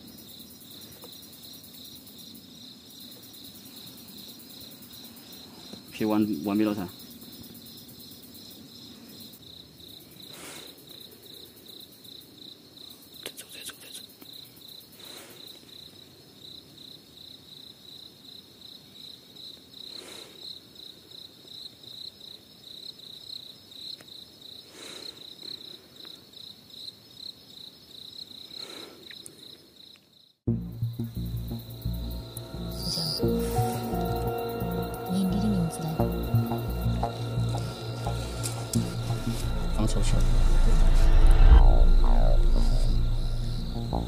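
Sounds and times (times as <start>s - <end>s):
cricket chirping: 0.0s - 44.0s.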